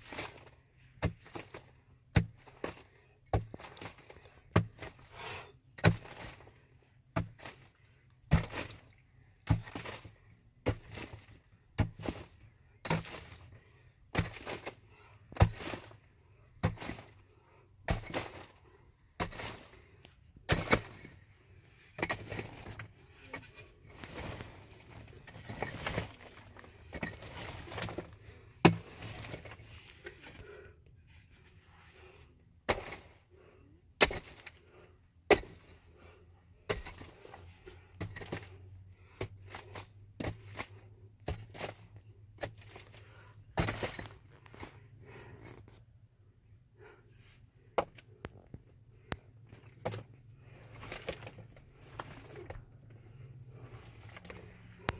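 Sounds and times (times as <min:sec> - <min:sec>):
rough rustling and scraping: 0:05.8 - 0:46.0, 0:47.2 - 0:54.9.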